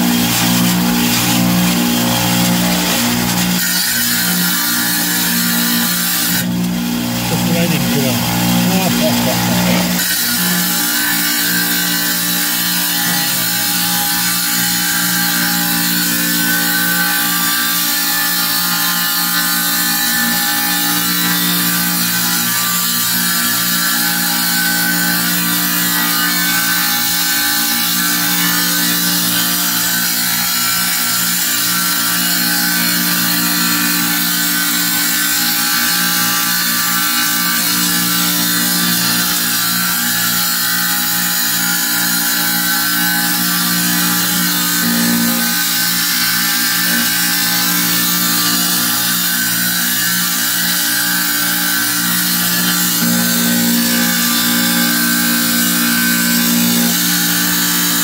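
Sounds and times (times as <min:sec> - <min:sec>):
tile saw grinding stone: 0:00.0 - 0:58.0.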